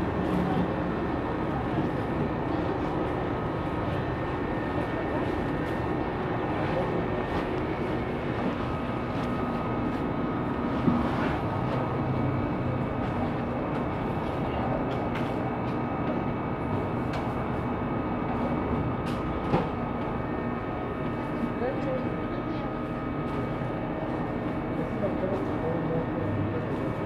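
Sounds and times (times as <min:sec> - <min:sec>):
thin steady whine: 0:00.0 - 0:27.0
ventilation hum: 0:00.0 - 0:27.0.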